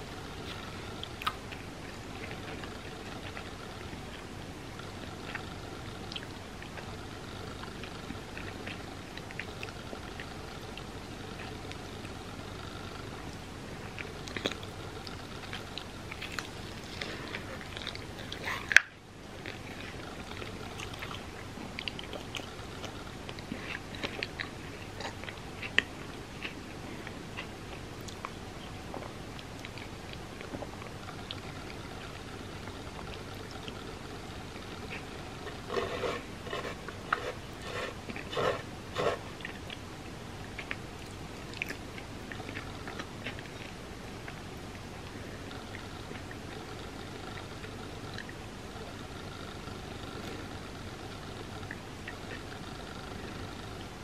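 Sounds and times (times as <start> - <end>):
wet chewing mouth sounds: 0.0 - 54.0.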